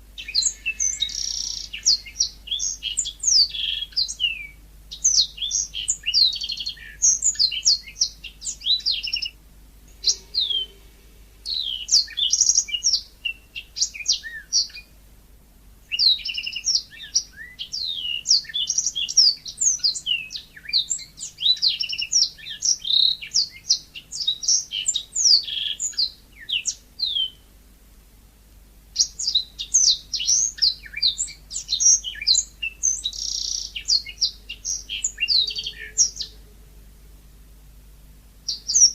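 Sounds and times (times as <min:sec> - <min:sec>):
canary singing: 0:00.0 - 0:14.9, 0:15.9 - 0:27.4, 0:29.0 - 0:37.2, 0:38.4 - 0:38.9.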